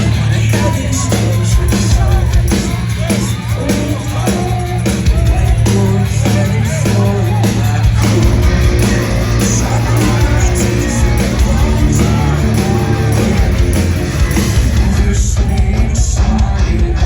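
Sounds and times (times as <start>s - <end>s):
live rock band playing: 0.0s - 16.6s
person singing: 0.0s - 17.0s.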